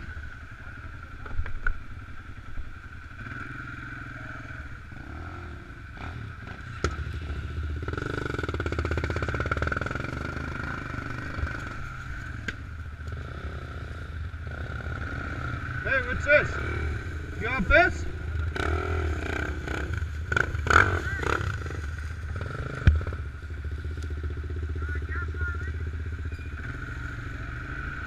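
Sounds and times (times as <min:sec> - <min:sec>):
atv engines running: 0:00.0 - 0:28.0.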